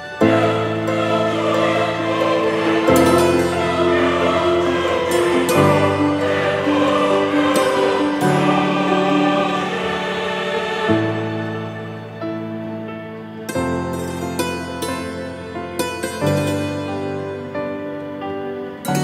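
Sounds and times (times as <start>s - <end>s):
slow sustained music chords: 0.0s - 19.0s.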